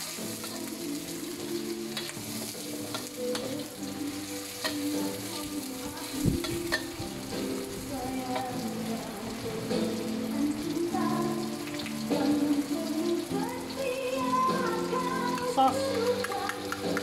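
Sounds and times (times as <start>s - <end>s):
onions sizzling in a wok: 0.0s - 17.0s.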